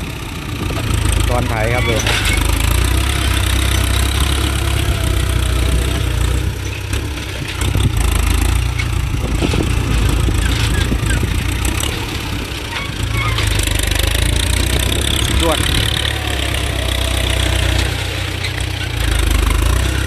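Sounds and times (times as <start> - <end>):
tractor diesel engine rumbling: 0.0 - 20.0.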